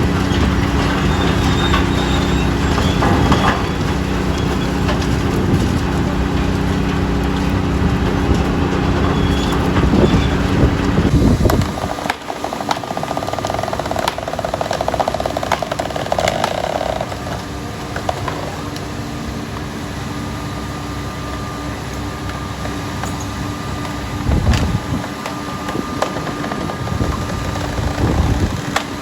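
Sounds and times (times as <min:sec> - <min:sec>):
diesel farm machinery running: 0:00.0 - 0:29.0.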